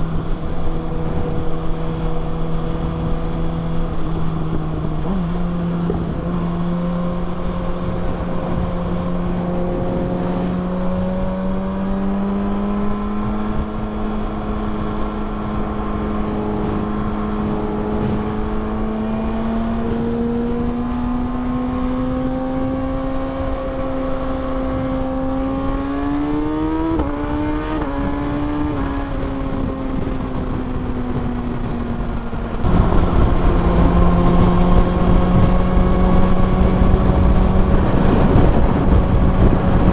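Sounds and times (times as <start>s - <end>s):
motorcycle engine accelerating: 0.0s - 39.9s
wind noise rushing: 0.0s - 39.9s.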